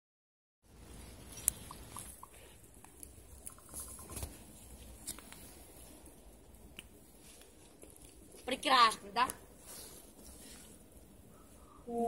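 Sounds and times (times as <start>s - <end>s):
campfire crackling: 0.7s - 11.7s.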